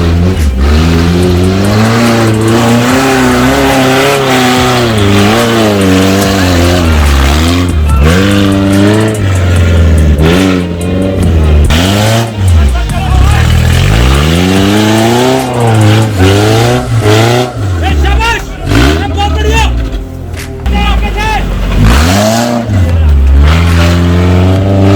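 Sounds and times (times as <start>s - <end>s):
off-road vehicle engine revving: 0.0s - 24.9s.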